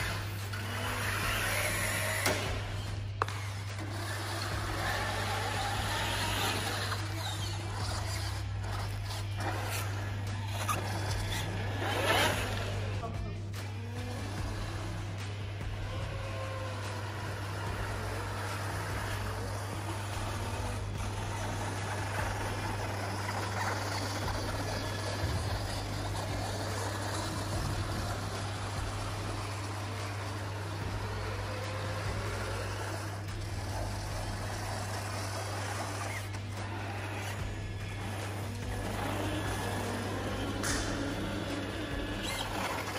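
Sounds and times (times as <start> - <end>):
constant low hum: 0.0 - 42.9
toy car electric motor whirring: 0.0 - 42.9.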